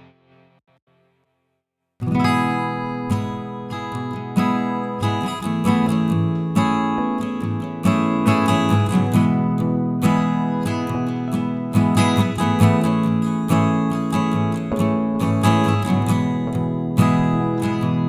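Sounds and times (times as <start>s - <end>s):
strummed acoustic guitar: 2.0s - 18.0s.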